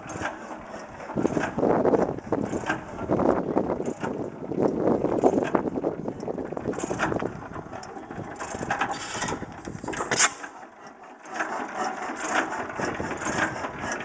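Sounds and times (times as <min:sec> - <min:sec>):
stationary gas engine running: 0:00.0 - 0:14.0.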